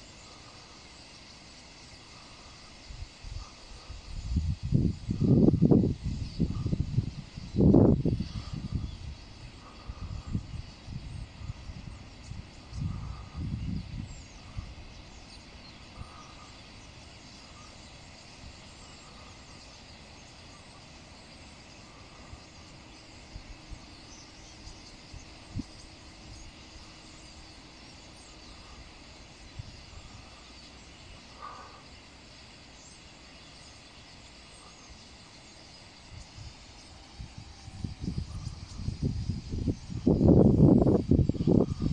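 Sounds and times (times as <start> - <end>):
flock of starlings chattering: 0.0 - 41.9.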